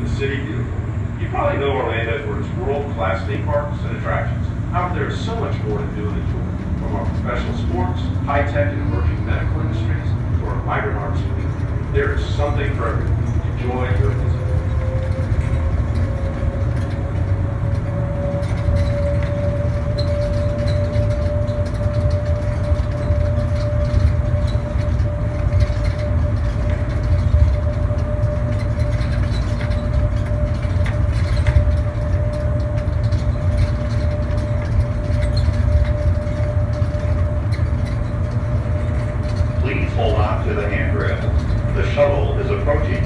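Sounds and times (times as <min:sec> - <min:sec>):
shuttle train rumbling: 0:00.0 - 0:43.0.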